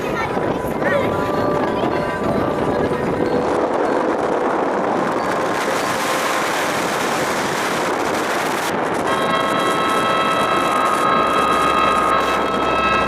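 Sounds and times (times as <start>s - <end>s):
rushing wind and water: 0.0s - 13.0s
speedboat engine drone with whine: 0.0s - 13.0s.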